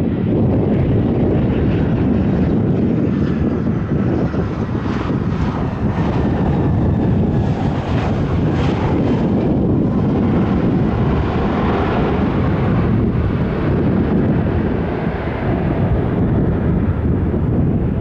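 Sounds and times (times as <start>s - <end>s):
airliner engine rumble: 0.0s - 18.0s
wind buffeting microphone: 0.0s - 18.0s.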